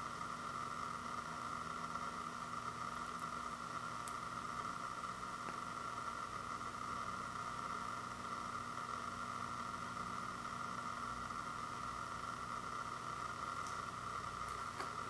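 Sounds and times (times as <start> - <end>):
faint low hum: 0.0 - 15.0
steady background hiss: 0.0 - 15.0.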